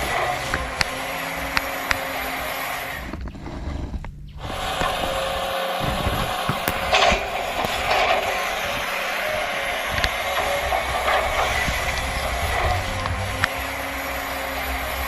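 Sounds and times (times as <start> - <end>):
small electric motors and gears: 0.0 - 15.0.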